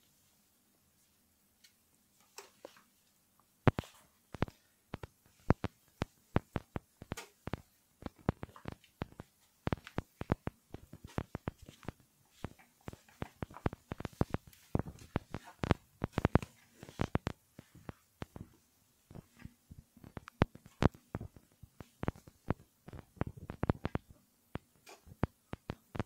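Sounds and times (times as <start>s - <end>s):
ball and paws tapping on tiles: 3.7s - 26.0s.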